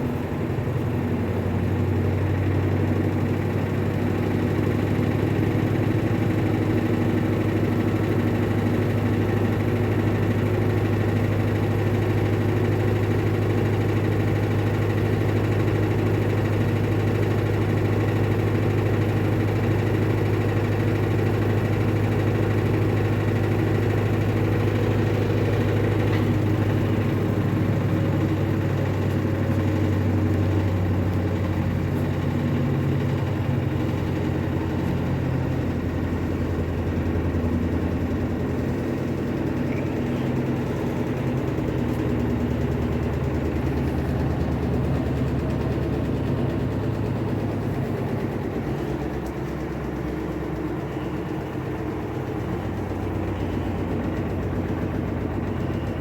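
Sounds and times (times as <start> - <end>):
washing machine motor hum: 1.2 - 56.0.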